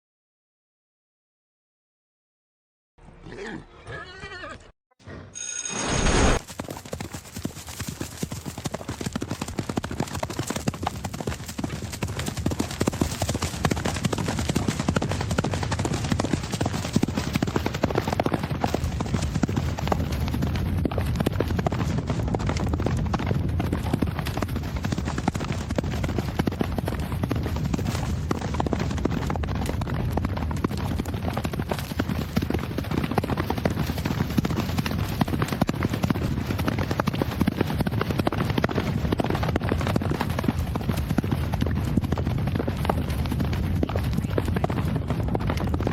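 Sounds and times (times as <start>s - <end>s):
horse hoofbeats galloping: 6.4s - 45.9s.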